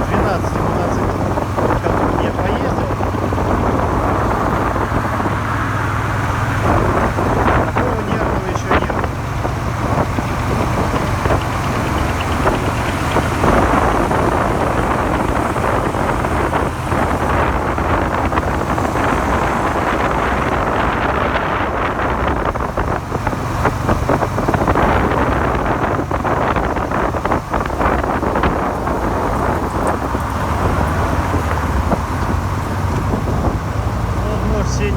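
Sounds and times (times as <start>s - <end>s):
motorcycle engine running: 0.0s - 34.9s
wind rushing over microphone: 0.0s - 34.9s.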